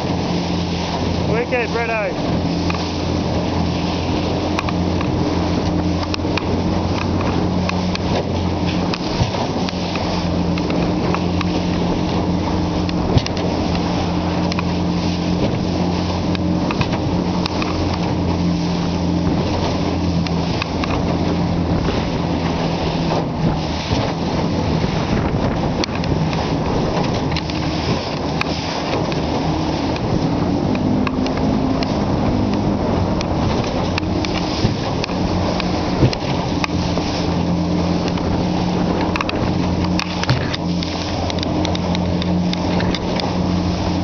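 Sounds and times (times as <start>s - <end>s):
boat engine humming: 0.0s - 44.0s
water rushing past boat: 0.0s - 44.0s
wind on microphone: 0.0s - 44.0s.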